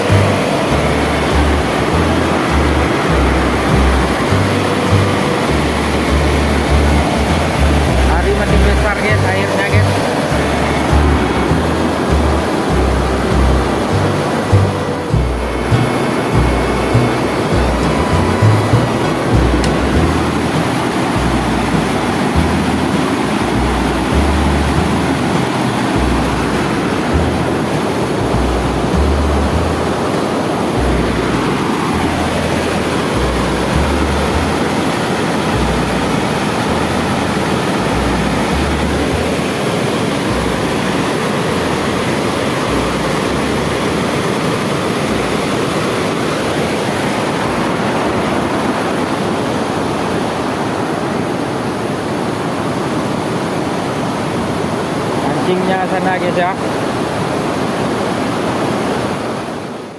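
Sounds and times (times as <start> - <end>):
water rushing over weir: 0.0 - 59.9.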